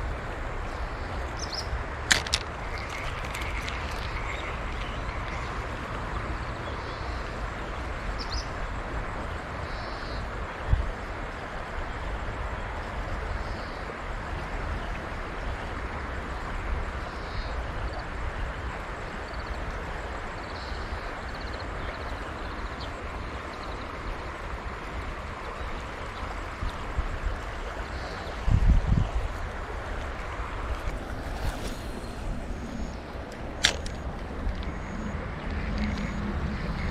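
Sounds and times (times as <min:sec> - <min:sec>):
wind rumble on microphone: 0:00.0 - 0:36.9.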